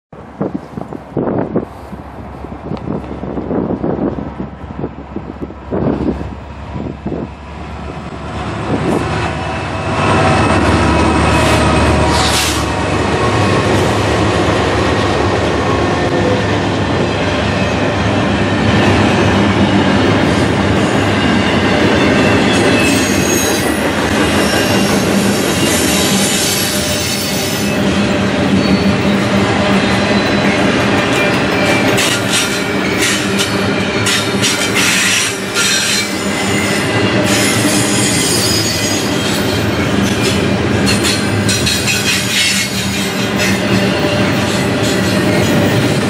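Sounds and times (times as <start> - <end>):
diesel locomotive passing: 0.2 - 46.0.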